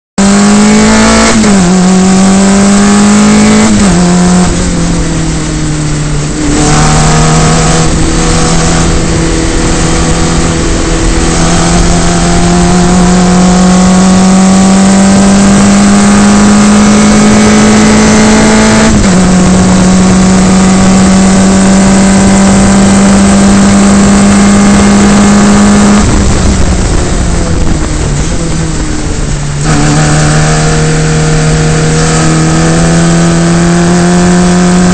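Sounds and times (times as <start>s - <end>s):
racing car engine revving: 0.2s - 34.9s.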